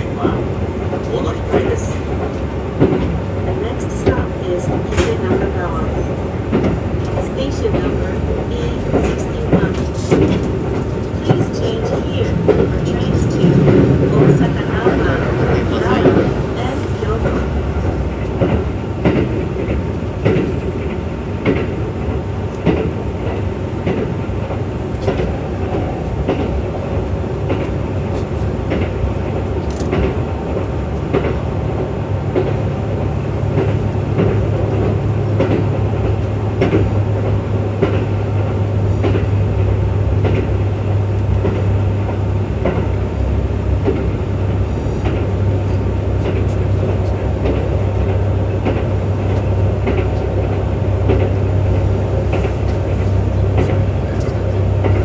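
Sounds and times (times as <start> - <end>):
rail joint clicks: 0.0 - 55.0
train wheels rumbling on rail: 0.0 - 55.0.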